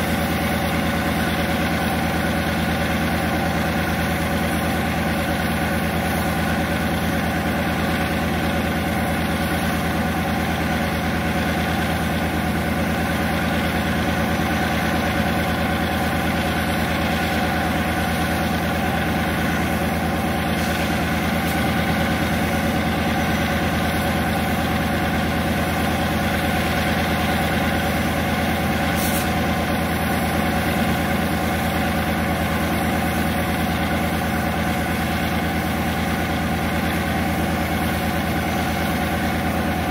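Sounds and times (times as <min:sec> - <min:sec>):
diesel locomotive idling: 0:00.0 - 0:39.9.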